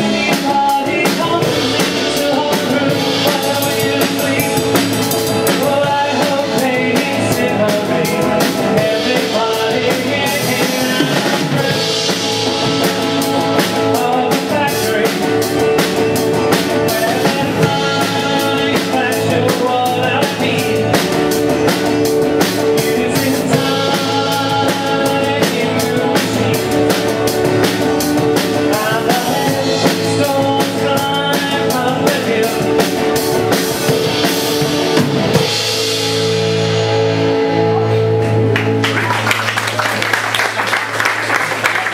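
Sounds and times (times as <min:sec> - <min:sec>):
drum kit beat: 0:00.0 - 0:41.9
strummed guitars: 0:00.0 - 0:41.9.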